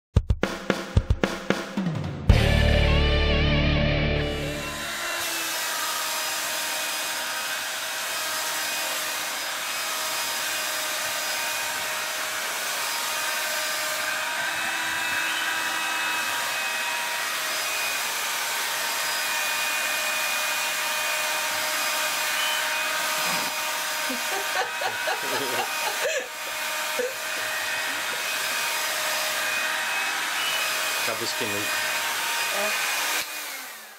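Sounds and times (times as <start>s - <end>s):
handheld vacuum cleaner running: 4.3s - 33.9s.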